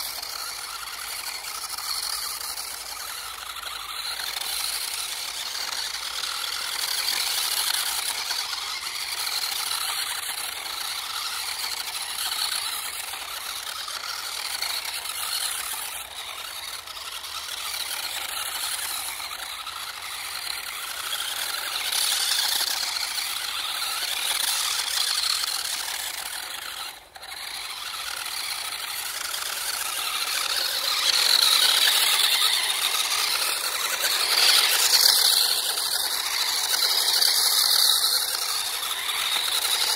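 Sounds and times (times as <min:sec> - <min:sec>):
rc car motor whirring: 0:00.0 - 0:39.9.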